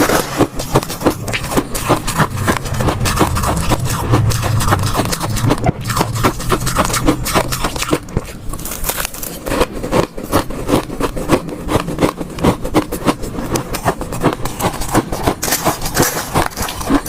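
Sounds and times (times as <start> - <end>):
ice cubes crunching in mouth: 0.0 - 17.0.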